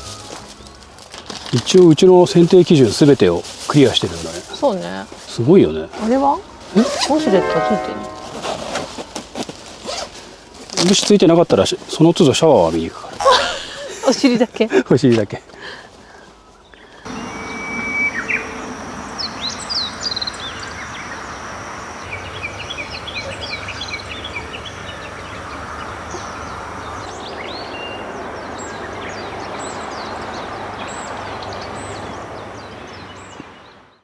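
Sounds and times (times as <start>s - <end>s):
outdoor background hiss: 0.0s - 34.0s.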